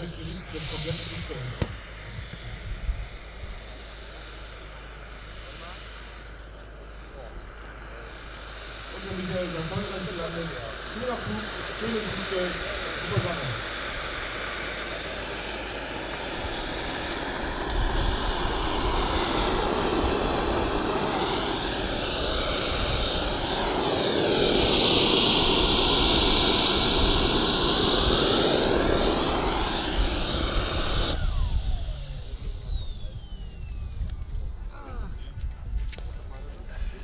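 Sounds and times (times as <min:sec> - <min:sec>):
model jet turbine whine: 0:00.0 - 0:37.0.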